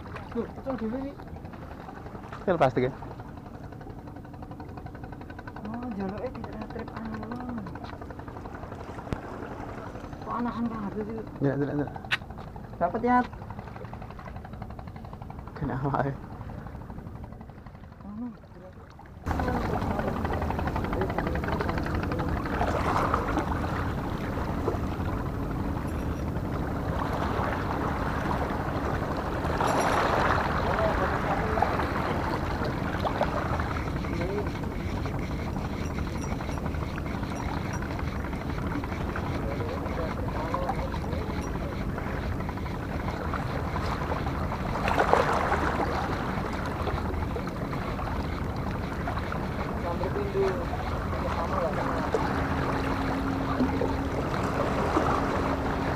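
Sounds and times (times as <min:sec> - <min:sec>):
sea water rushing: 0:00.0 - 0:55.9
wind: 0:00.0 - 0:55.9.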